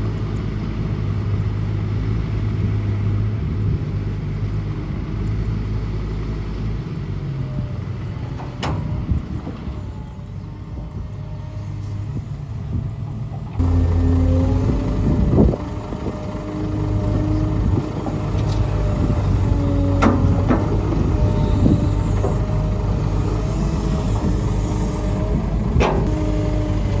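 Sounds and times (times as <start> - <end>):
diesel engine drone: 0.0 - 27.0.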